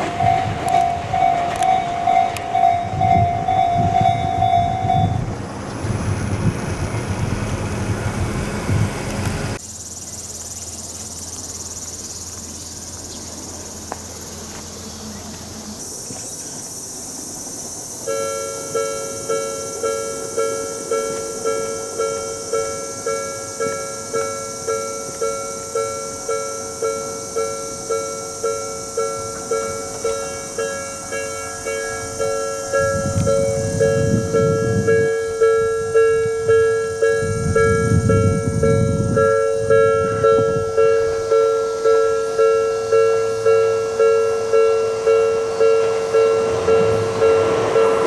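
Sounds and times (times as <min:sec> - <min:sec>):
railroad crossing bell: 0:00.0 - 0:48.0.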